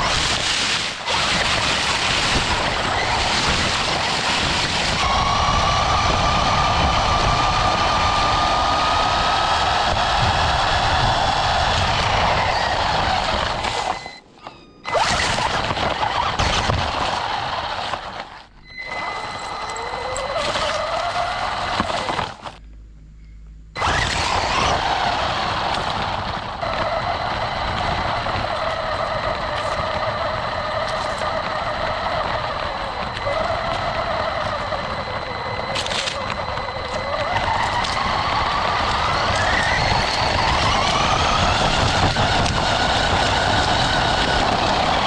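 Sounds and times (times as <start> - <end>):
rc car motor whining: 0.0 - 22.6, 23.8 - 45.0.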